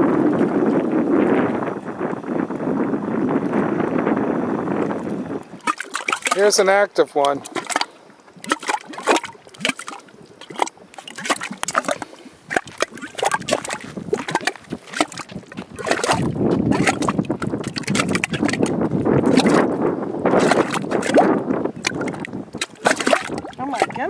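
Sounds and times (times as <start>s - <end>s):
mud bubbling and gurgling: 0.0s - 24.0s.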